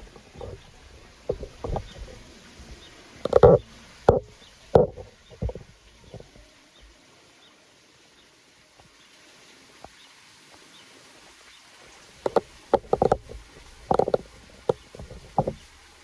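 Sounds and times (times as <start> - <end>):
faint rain patter: 0.0 - 16.0.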